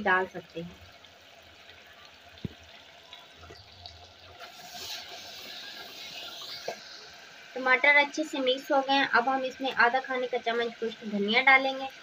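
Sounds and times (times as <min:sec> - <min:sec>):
meat sizzling in ghee: 0:00.0 - 0:12.0.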